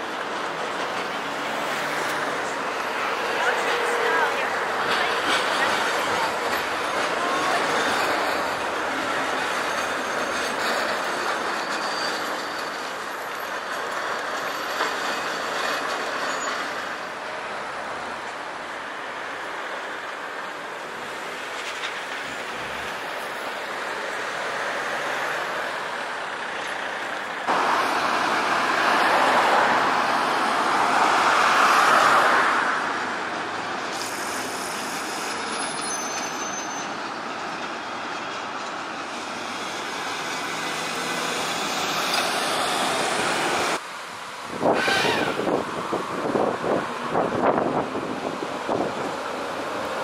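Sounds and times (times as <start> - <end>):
tram wheels clattering on rail joints: 0.0 - 43.8, 44.6 - 50.0
road traffic: 0.0 - 50.0
tram running: 0.0 - 50.0.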